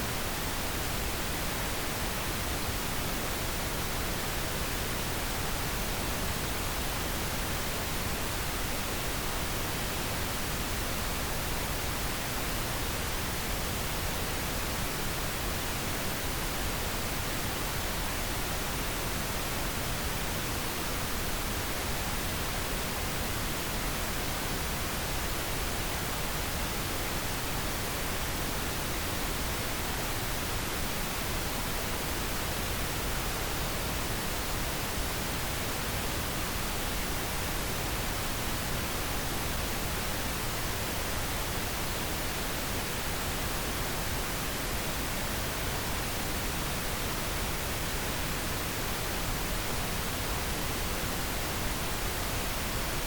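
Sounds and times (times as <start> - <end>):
pink noise hiss: 0.0 - 53.0.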